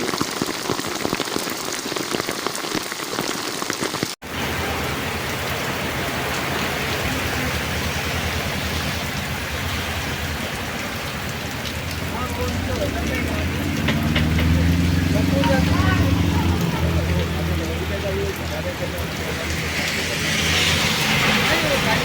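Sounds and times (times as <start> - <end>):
heavy rain pattering: 0.0 - 22.0.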